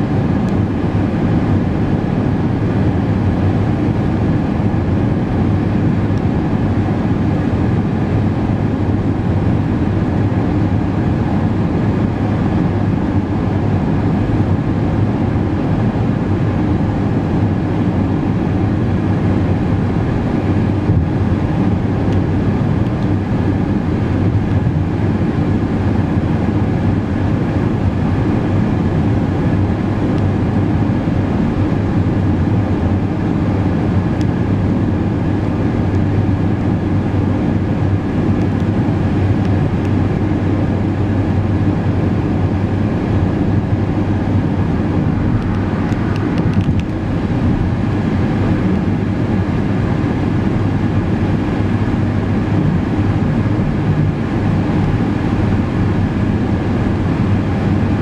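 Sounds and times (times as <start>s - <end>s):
car driving at highway speed: 0.0s - 58.0s.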